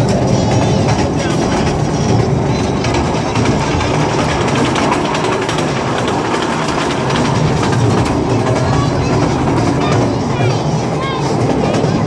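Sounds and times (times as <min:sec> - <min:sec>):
train carriage rumbling: 0:00.0 - 0:12.0
wheel clicks and rattles: 0:00.0 - 0:12.0.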